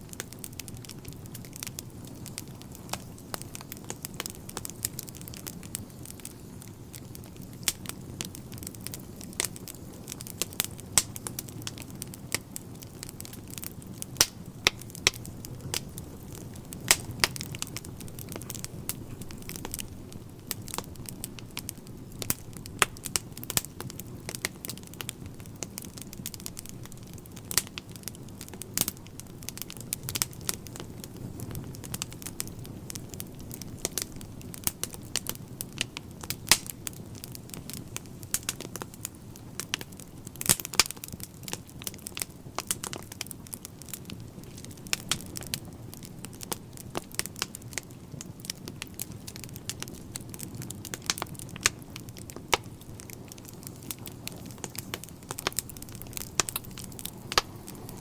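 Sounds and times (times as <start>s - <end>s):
burning logs crackling and popping: 0.0s - 58.0s
low rumble of flames: 0.0s - 58.0s.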